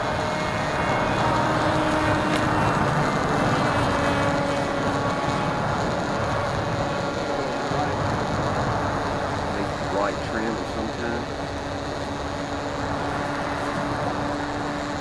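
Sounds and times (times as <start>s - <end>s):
model plane motor droning: 0.0s - 15.0s.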